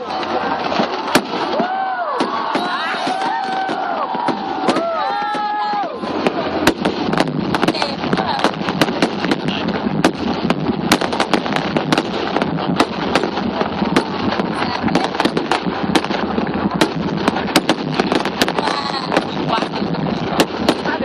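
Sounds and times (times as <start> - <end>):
crowd noise: 0.0 - 21.0
fireworks bangs and cracks: 0.0 - 21.0
fireworks rumble: 0.0 - 21.0.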